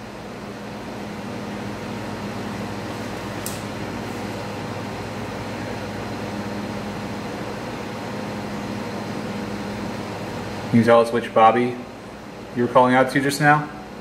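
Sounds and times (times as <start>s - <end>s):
room hum and hiss: 0.0s - 14.0s.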